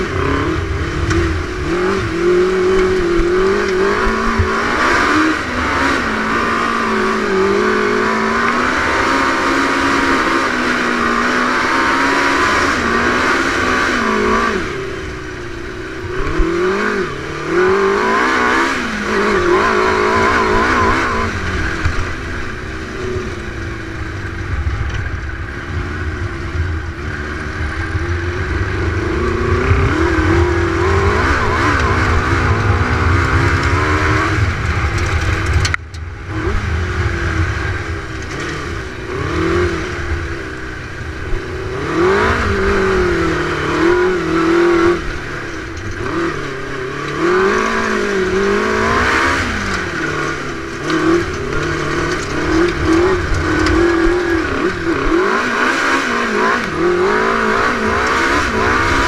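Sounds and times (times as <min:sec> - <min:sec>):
dune buggy engine revving: 0:00.0 - 0:59.0.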